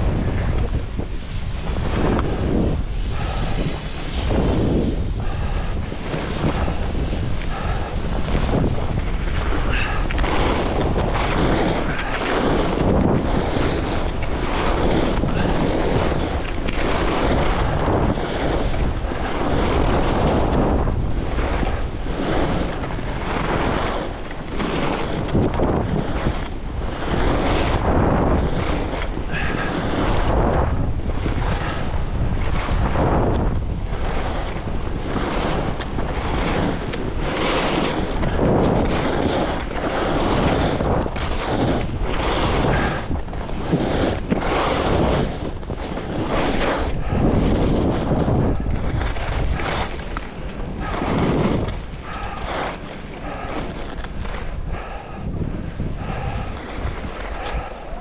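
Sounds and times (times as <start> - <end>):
skis hissing through snow: 0.0 - 58.0
wind on microphone: 0.0 - 58.0.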